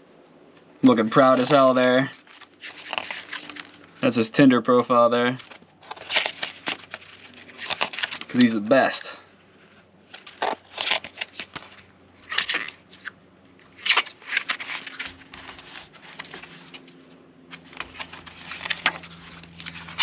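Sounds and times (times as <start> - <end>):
paper pages turning: 0.8 - 4.2, 5.2 - 8.9, 9.7 - 20.0.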